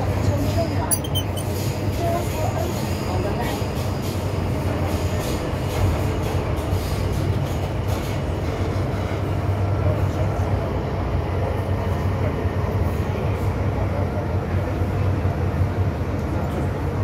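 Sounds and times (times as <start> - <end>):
train cabin low hum: 0.0 - 17.0
wheels rumbling on rail: 0.0 - 17.0.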